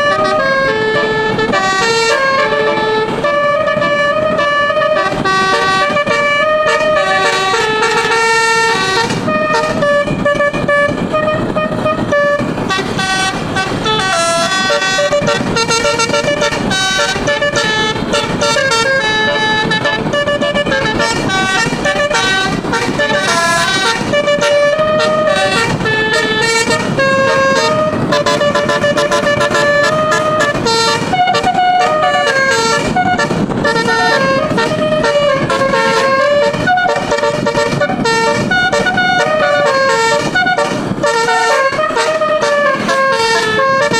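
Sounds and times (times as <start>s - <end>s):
musical air horn melody: 0.0s - 43.9s.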